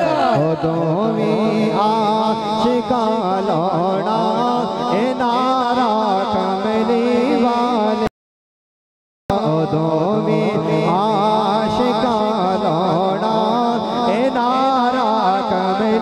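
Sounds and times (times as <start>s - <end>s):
man singing into a microphone: 0.0s - 8.1s, 9.3s - 16.0s.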